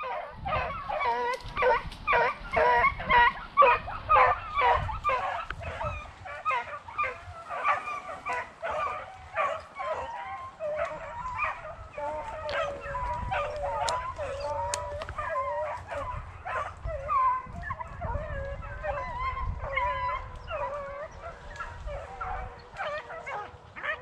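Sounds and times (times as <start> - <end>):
beagles baying: 0.0 - 24.0.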